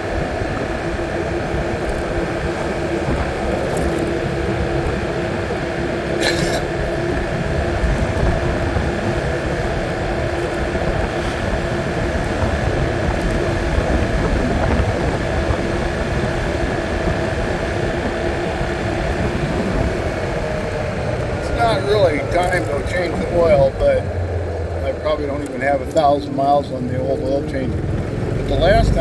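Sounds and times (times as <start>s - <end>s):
scooter engine running: 0.0s - 29.0s
wind and road noise: 0.0s - 29.0s.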